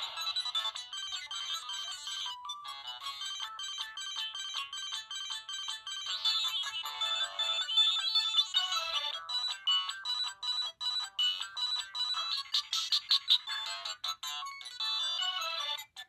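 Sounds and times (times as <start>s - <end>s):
phone ringtone melodies: 0.0s - 16.0s.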